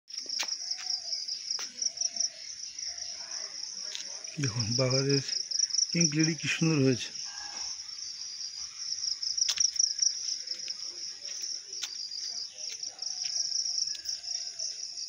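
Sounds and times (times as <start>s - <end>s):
insects trilling: 0.1s - 15.0s.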